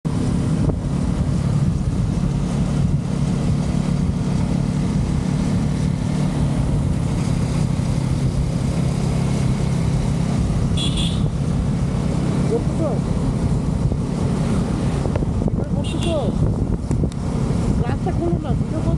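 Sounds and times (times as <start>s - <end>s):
road noise: 0.0s - 18.9s
motorcycle engine cruising: 0.1s - 18.9s.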